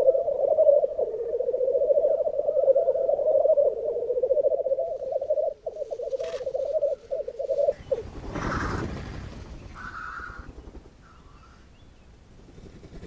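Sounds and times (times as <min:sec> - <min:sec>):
black grouse bubbling song: 0:00.0 - 0:12.0.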